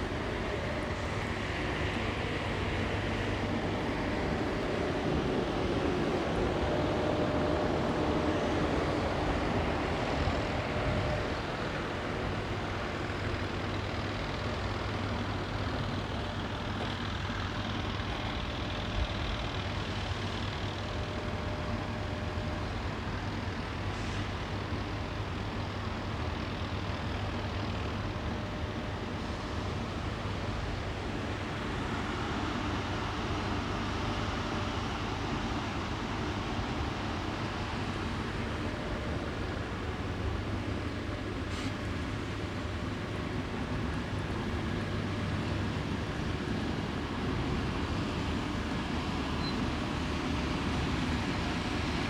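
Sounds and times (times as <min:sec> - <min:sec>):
low hum of distant traffic: 0:00.0 - 0:52.0.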